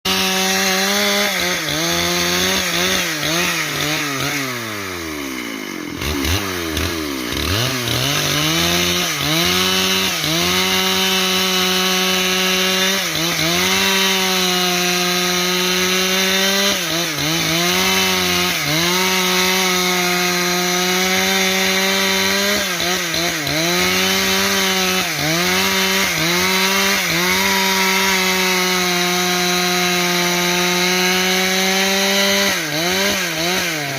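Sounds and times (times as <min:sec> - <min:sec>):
chainsaw cutting a log: 0:00.0 - 0:33.9.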